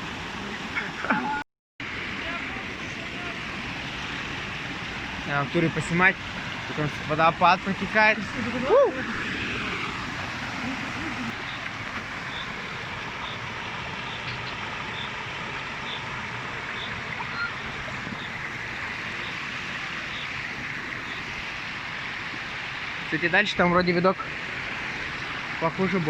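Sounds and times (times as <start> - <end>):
waterfall and stream rushing: 0.0 - 26.0.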